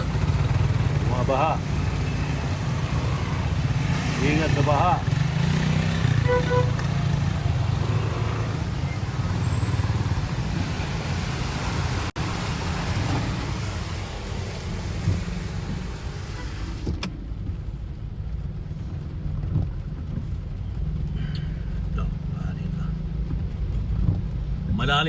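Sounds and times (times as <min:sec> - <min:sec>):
car engine and road rumble: 0:00.0 - 0:25.0
rain and water wash: 0:00.0 - 0:25.0.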